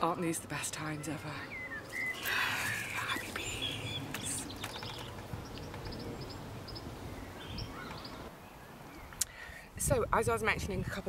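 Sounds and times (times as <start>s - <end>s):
small birds chirping: 0.1s - 9.6s.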